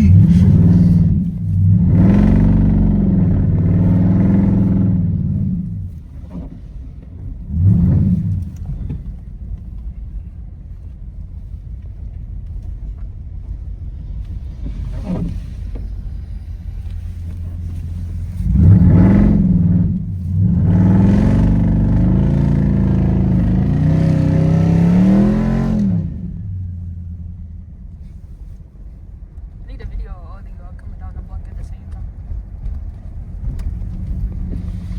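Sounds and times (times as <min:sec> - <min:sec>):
car engine revving: 0:00.0 - 0:10.1, 0:13.5 - 0:28.6, 0:29.7 - 0:34.9.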